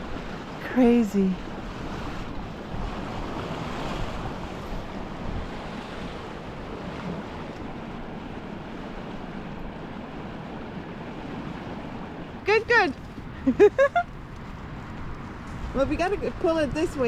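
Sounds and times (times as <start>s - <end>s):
water washing past boat hull: 0.0s - 17.0s
wind on microphone: 0.0s - 17.0s.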